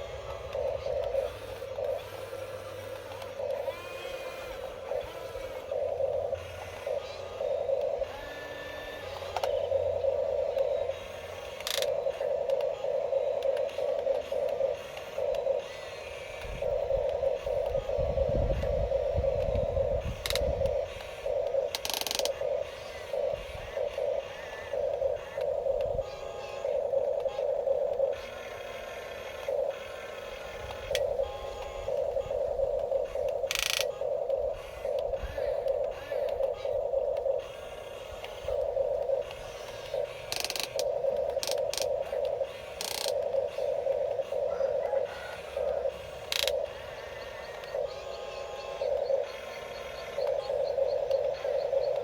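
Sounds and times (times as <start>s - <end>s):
sharp clicks: 0.0s - 52.0s
toy electric motors whirring: 0.0s - 52.0s.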